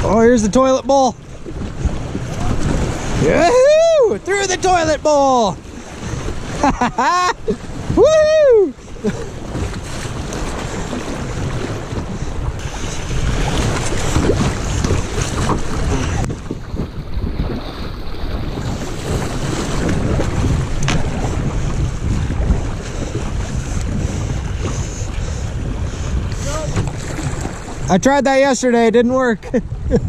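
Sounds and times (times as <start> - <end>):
paddle strokes in water: 0.0 - 28.0
river water rushing and splashing: 0.0 - 28.9
wind buffeting microphone: 0.0 - 30.0.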